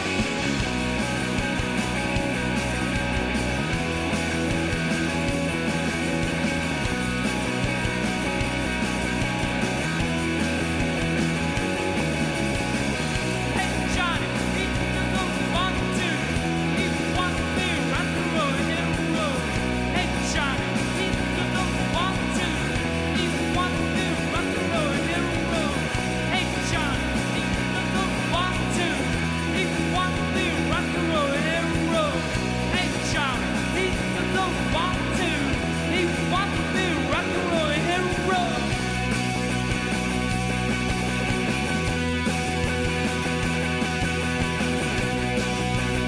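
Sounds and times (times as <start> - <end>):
bass guitar line: 0.0 - 46.0
electric guitars bending notes: 0.0 - 46.0.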